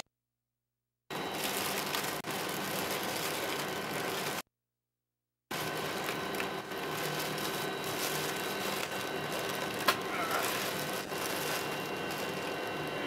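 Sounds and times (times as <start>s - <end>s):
ventilation fans hissing and humming: 1.1s - 4.4s, 5.5s - 13.0s.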